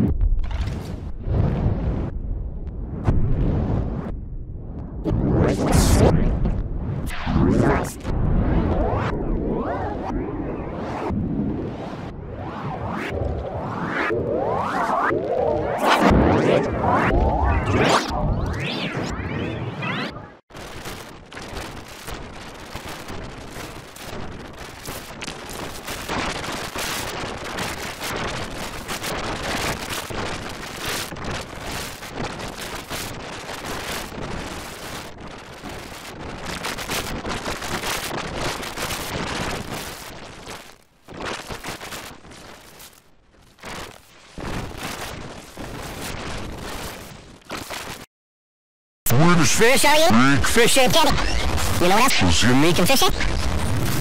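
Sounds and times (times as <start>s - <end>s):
harsh distorted digital noise: 5.0s - 9.7s, 13.8s - 43.0s, 43.6s - 48.1s, 49.1s - 54.0s.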